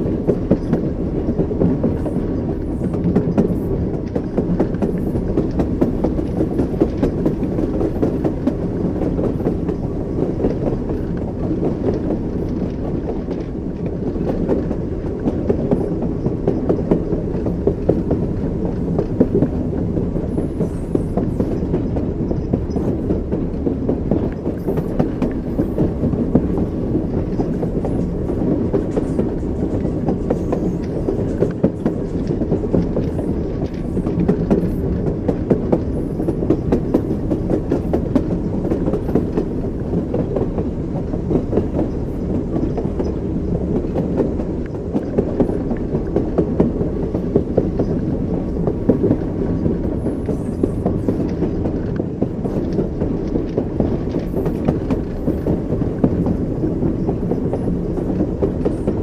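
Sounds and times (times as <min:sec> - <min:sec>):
rail joint knocks and clatter: 0:00.0 - 0:59.0
train wheels rumbling on rails: 0:00.0 - 0:59.0.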